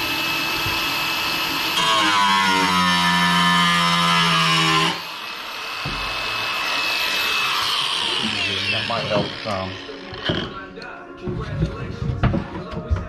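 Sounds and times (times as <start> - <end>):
power tool motor humming: 0.0 - 10.6.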